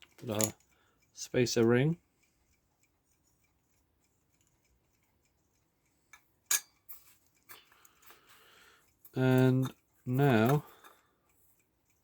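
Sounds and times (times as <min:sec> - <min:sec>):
metallic clicks of clock parts: 0:00.0 - 0:08.2, 0:08.8 - 0:12.0.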